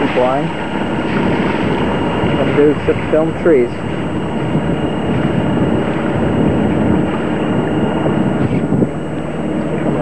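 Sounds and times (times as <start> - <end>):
boat engine droning: 0.0 - 10.0
wind rushing over microphone: 0.0 - 10.0.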